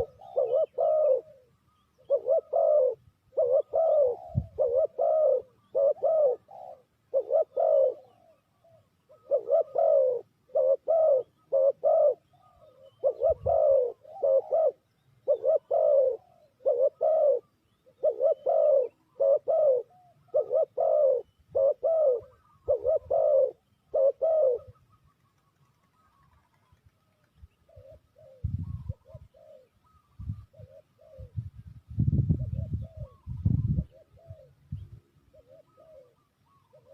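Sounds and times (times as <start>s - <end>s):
dove cooing: 0.0s - 26.8s, 27.5s - 36.9s.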